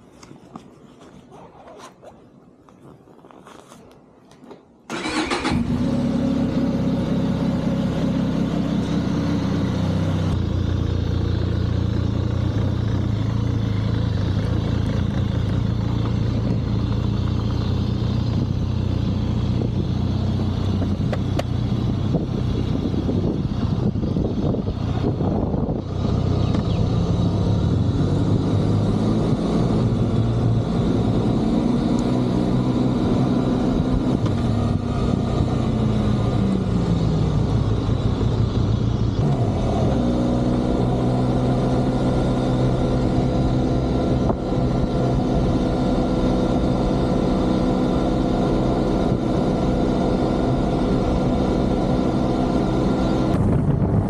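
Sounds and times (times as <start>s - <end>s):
motorcycle engine running: 4.9s - 54.0s.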